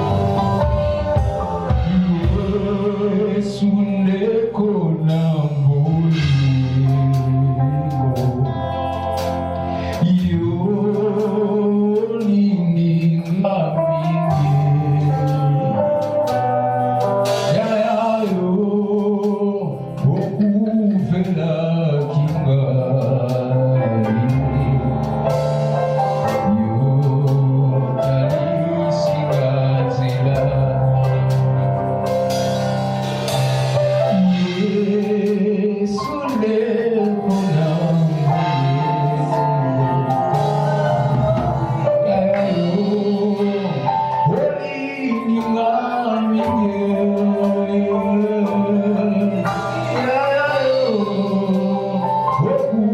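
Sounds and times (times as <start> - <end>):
person singing: 0.0 - 32.4, 33.2 - 52.9
live worship band playing: 0.0 - 52.9.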